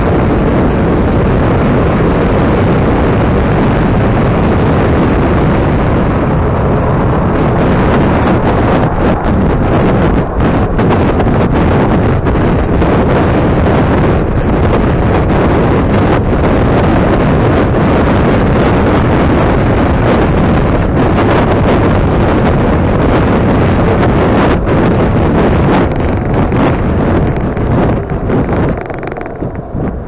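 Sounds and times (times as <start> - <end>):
wind rush buffeting microphone: 0.0 - 30.0.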